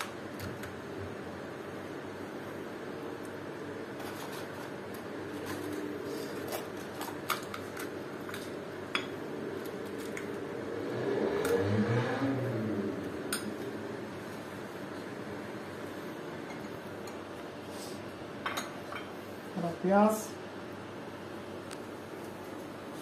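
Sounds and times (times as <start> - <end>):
small fan humming: 0.0 - 23.0.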